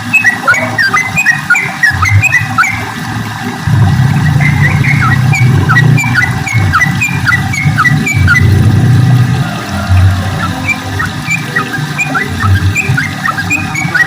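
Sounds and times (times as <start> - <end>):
bird chirping: 0.0 - 2.9, 4.0 - 9.0, 9.8 - 14.0.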